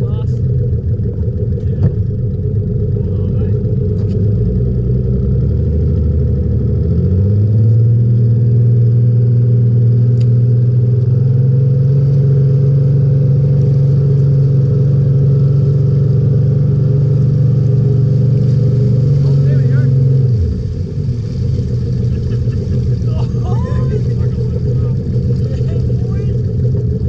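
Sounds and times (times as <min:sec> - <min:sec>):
boat engine revving: 0:00.0 - 0:27.0.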